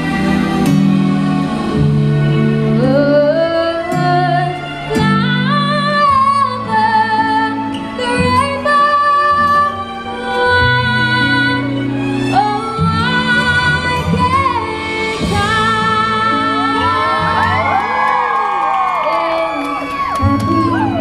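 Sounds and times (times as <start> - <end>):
woman singing into a microphone: 2.7 - 17.8, 19.0 - 21.0.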